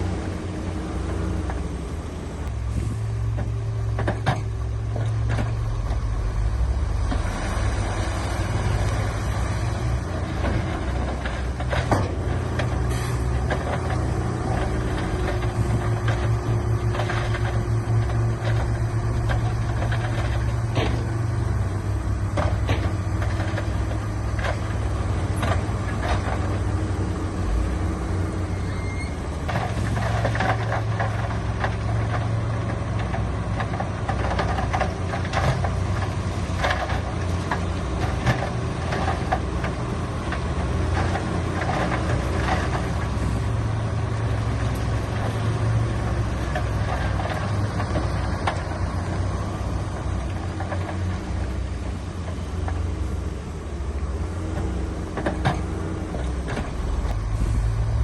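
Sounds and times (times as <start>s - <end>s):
heavy diesel machinery engine drone: 0.0s - 58.0s
machinery knocks and clanks: 2.4s - 6.3s, 7.0s - 26.8s, 29.3s - 53.1s, 54.3s - 58.0s.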